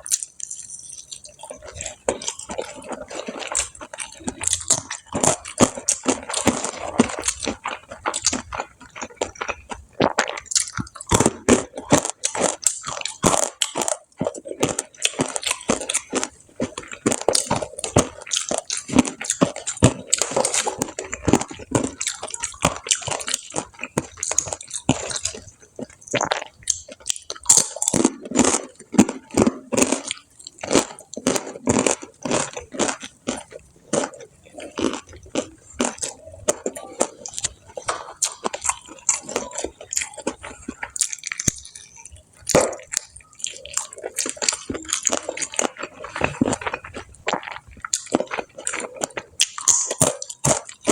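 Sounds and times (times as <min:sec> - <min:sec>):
crunching fried food: 0:00.0 - 0:50.9.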